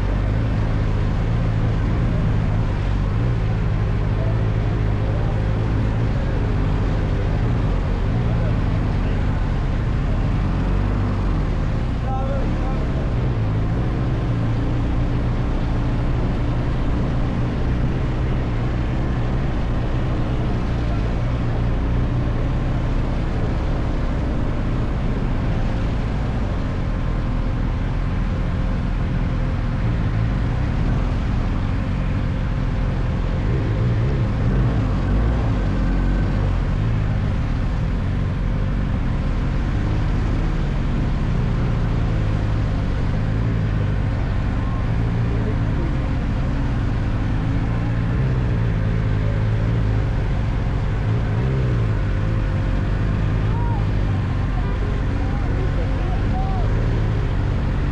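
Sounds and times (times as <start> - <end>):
road noise: 0.0 - 57.9
vehicle engine rumble: 0.0 - 57.9.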